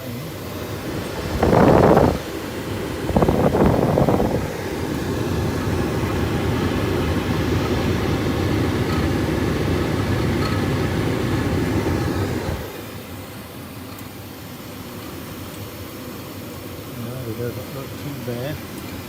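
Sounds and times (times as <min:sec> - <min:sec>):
furnace blower whooshing hum: 0:00.0 - 0:19.0.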